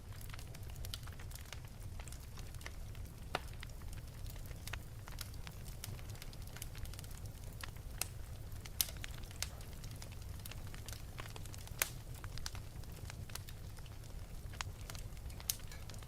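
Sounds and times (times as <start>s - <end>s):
fire crackling and popping: 0.0s - 16.0s
wood fire rumbling: 0.0s - 16.0s.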